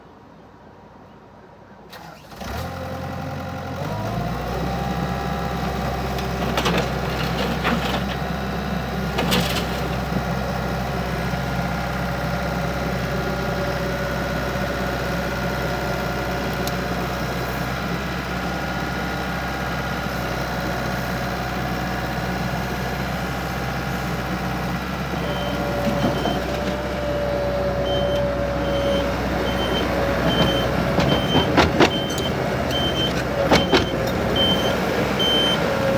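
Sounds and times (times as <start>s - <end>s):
diesel engine starting and running: 1.9s - 35.9s.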